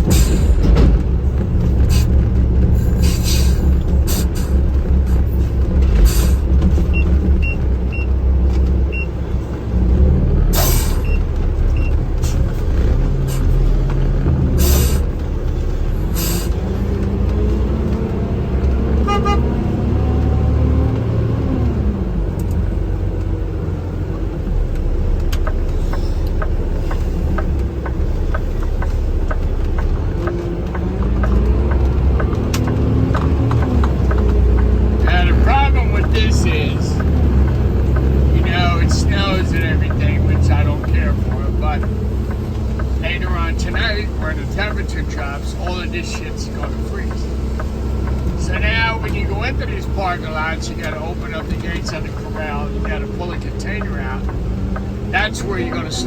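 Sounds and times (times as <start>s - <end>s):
truck engine and road noise: 0.0s - 56.0s.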